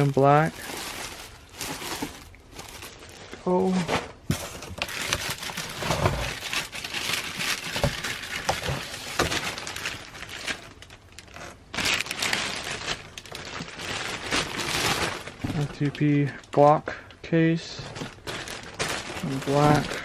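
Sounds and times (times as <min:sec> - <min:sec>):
plastic packaging crinkling: 0:00.0 - 0:17.2, 0:17.8 - 0:20.0.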